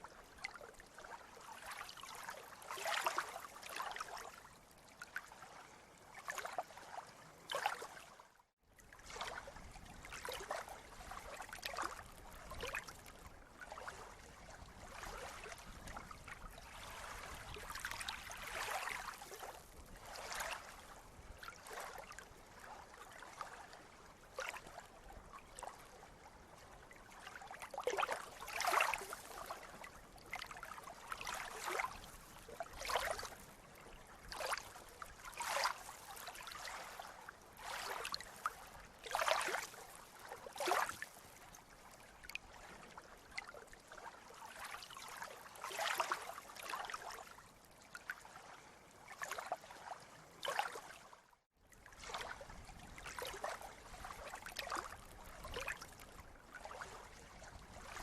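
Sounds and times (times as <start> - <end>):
sea water lapping on shore: 0.0 - 58.0.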